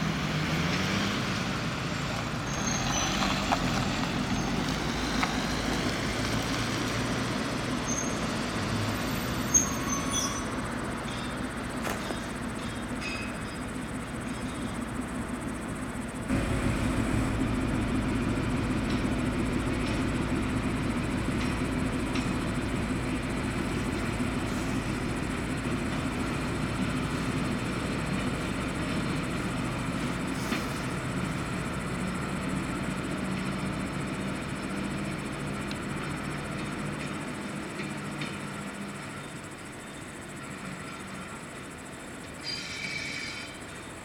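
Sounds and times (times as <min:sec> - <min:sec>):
diesel locomotive engine running: 0:00.0 - 0:44.0.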